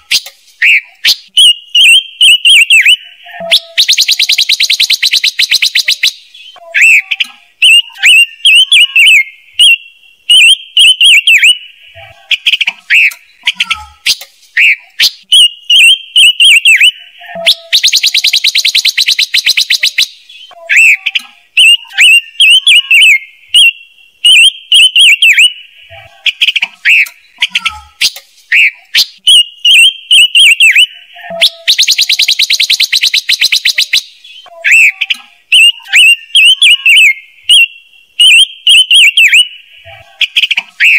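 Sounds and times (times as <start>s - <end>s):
recorded bird chirping: 0.0s - 40.9s.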